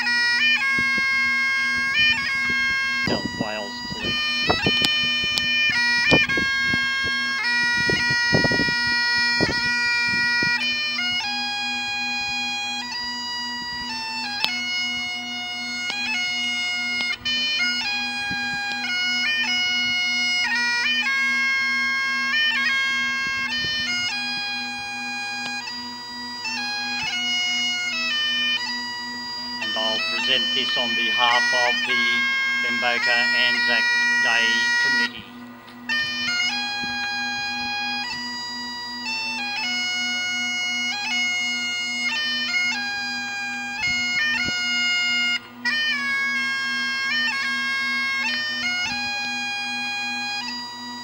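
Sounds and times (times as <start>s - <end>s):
bagpipes playing slow tune: 0.0s - 51.0s.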